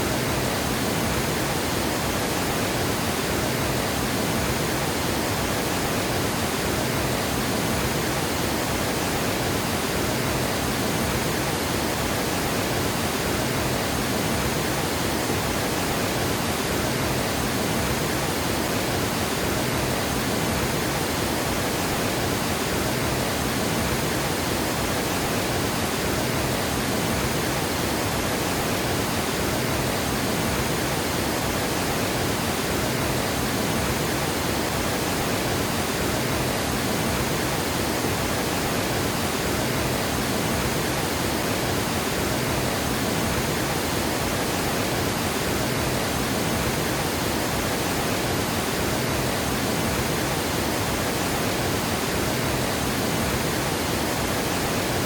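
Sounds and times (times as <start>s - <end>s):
water gushing over a dam: 0.0s - 55.0s.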